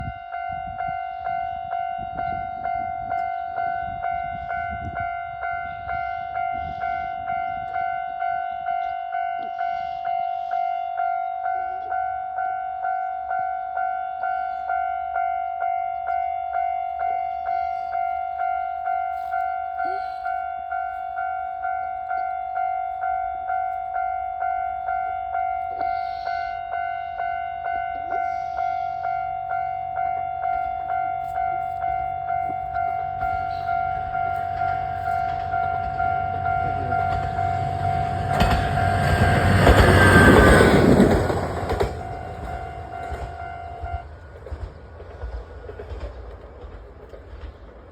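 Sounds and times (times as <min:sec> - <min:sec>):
level crossing bell clanging: 0:00.4 - 0:44.6.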